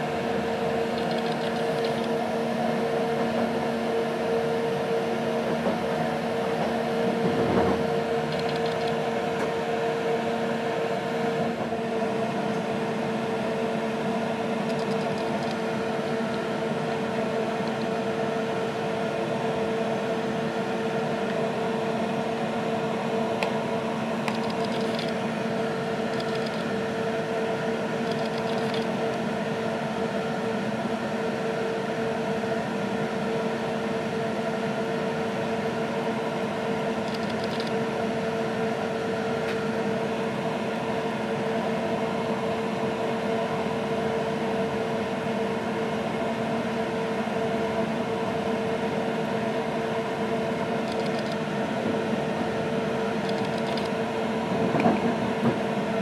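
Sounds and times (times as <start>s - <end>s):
train coach hum and rumble: 0.0s - 56.0s.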